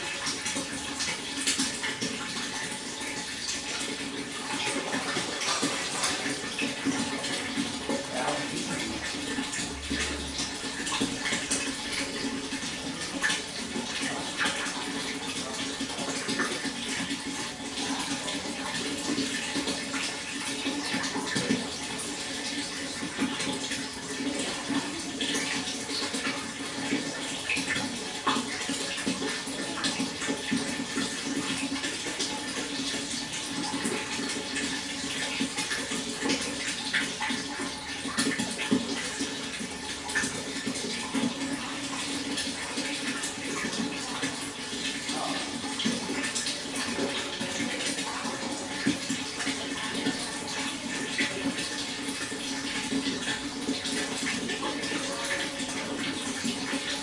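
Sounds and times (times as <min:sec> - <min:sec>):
small water splashes: 0:00.0 - 0:57.0
water flowing: 0:00.0 - 0:57.0.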